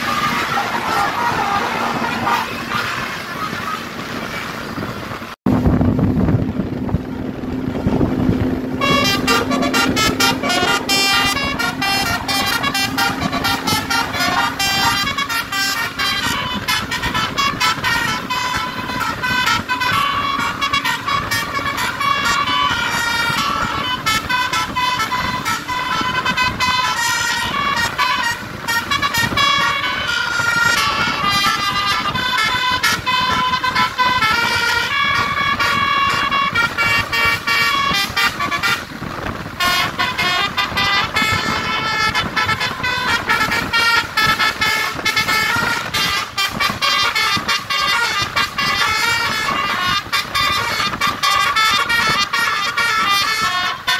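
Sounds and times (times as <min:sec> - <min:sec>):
multi-tone musical bus horn: 0:00.0 - 0:05.1, 0:06.6 - 0:53.9
road noise: 0:00.0 - 0:53.9.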